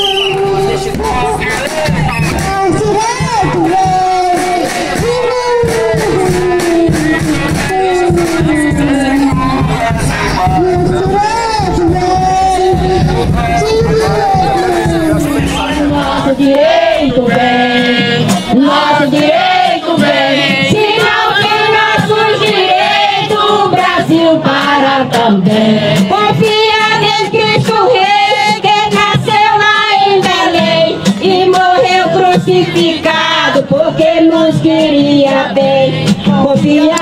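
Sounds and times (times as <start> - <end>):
music with group singing: 0.0 - 37.0.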